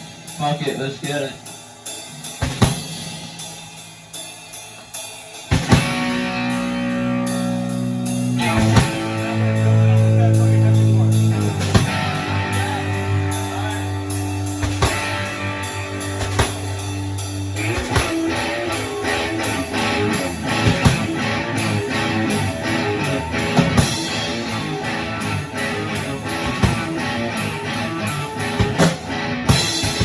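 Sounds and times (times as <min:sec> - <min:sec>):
drums: 0:00.0 - 0:30.0
electric guitar chords: 0:05.5 - 0:30.0.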